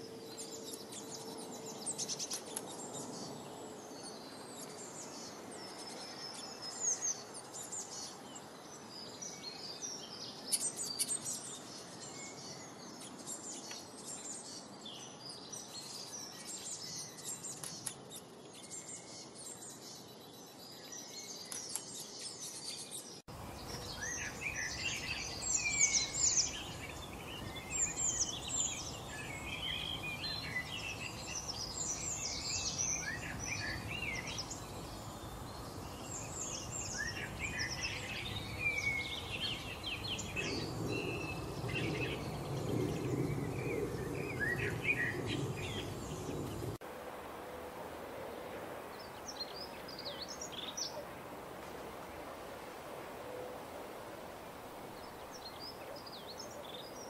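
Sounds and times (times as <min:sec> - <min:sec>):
songbirds chirping and singing: 0:00.0 - 0:46.8, 0:48.9 - 0:52.3, 0:54.8 - 0:57.0.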